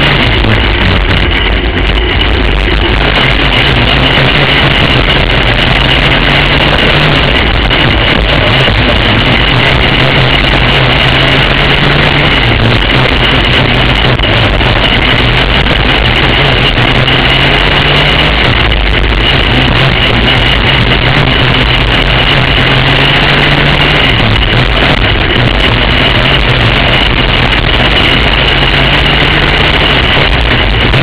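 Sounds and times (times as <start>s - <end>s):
kart engine running hard: 0.0s - 31.0s.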